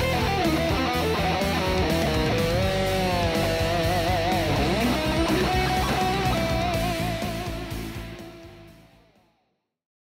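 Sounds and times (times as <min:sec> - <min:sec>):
drums: 0:00.0 - 0:09.2
electric guitar lead line: 0:00.0 - 0:09.2
metal backing track: 0:00.0 - 0:09.2
bass: 0:00.0 - 0:09.3.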